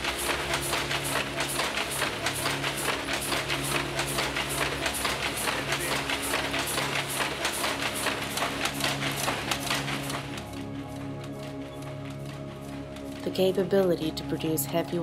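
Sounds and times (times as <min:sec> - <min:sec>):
background music with low notes: 0:00.0 - 0:15.0
weaving loom clattering: 0:00.0 - 0:15.0.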